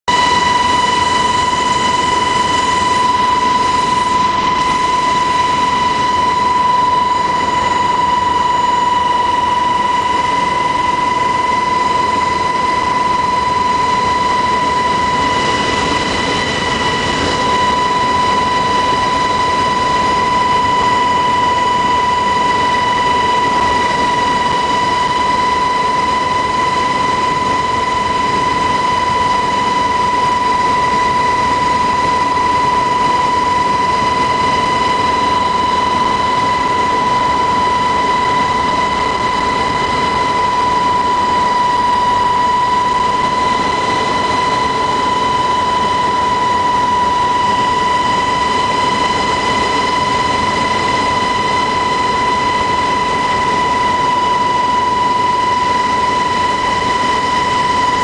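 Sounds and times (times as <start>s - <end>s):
helicopter engine and rotor noise: 0.0s - 58.0s
high whine: 0.0s - 58.0s.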